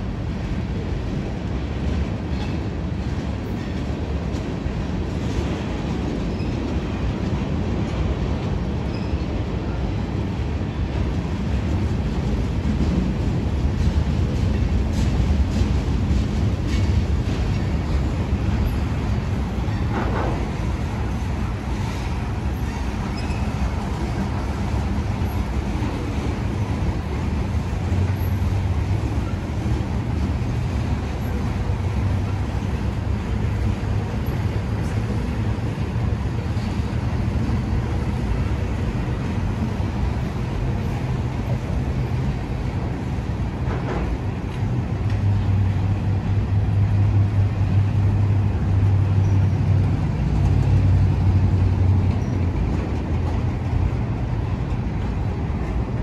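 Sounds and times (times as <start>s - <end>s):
freight train rumbling past: 0.0s - 56.0s
road traffic: 0.0s - 56.0s.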